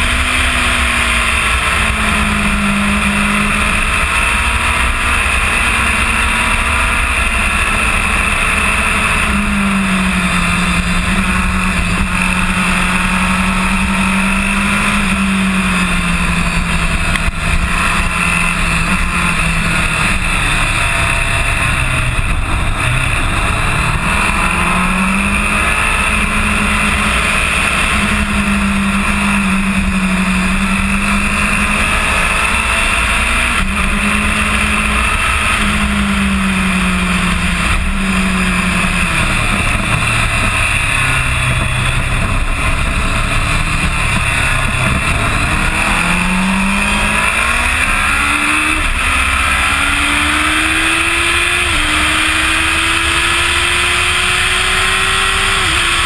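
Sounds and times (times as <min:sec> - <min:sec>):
motorcycle engine racing: 0:00.0 - 0:56.0.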